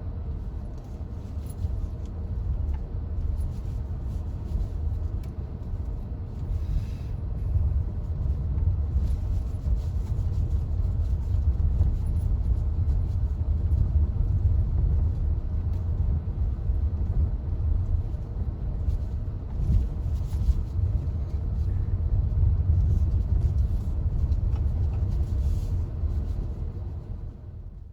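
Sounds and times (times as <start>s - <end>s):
car engine and tyres rumbling: 0.0s - 27.9s.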